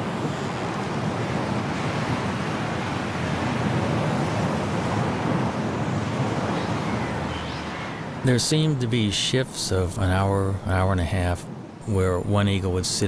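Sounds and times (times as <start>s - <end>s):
snowstorm wind blowing hard: 0.0s - 13.0s.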